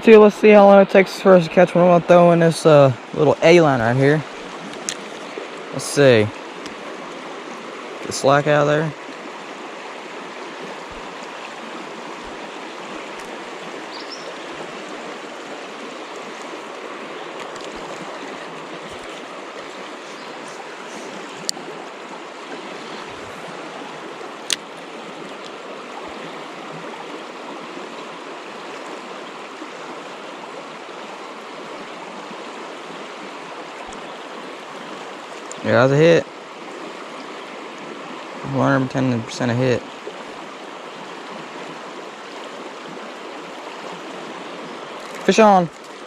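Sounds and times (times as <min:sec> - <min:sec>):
river rushing over riffles: 0:00.0 - 0:46.0.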